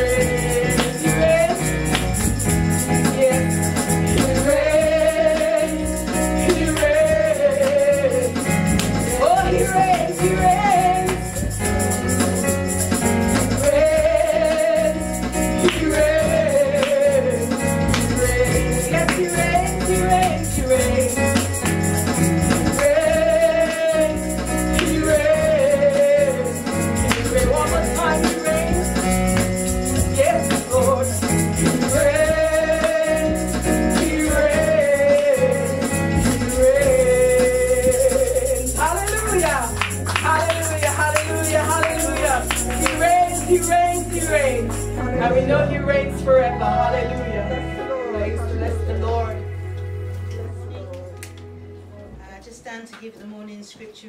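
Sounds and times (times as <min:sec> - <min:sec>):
instrumental backing music: 0:00.0 - 0:53.6.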